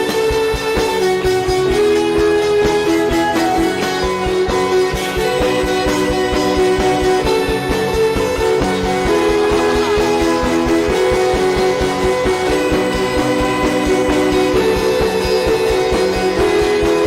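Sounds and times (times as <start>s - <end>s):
worship music with guitar: 0.0s - 17.0s.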